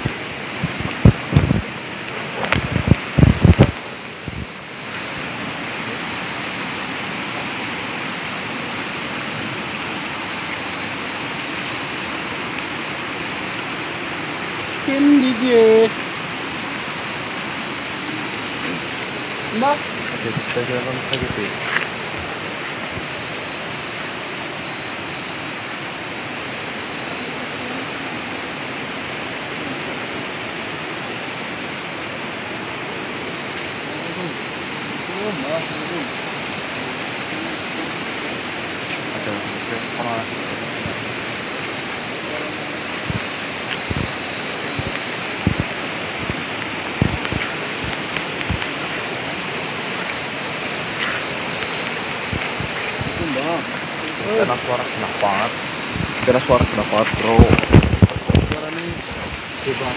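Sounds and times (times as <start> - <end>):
river water rushing: 0.0 - 59.9
thin high whine: 0.0 - 59.9.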